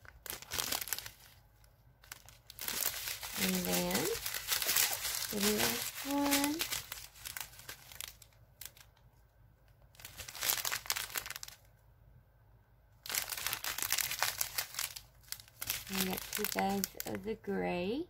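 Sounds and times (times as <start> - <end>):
plastic packets crinkling: 0.0 - 9.1, 9.9 - 11.8, 13.0 - 17.2.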